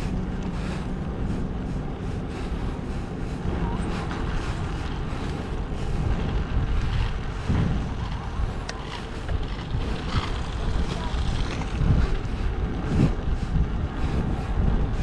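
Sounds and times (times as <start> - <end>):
bicycle rumble: 0.0 - 15.0
wind on microphone: 0.0 - 15.0.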